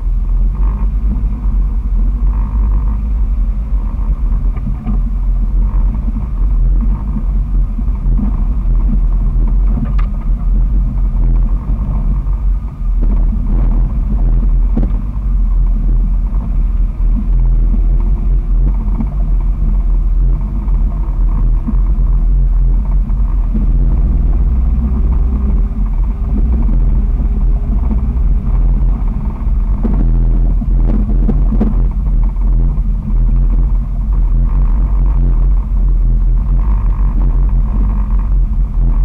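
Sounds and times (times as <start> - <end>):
off-road vehicle engine rumbling: 0.0 - 39.0.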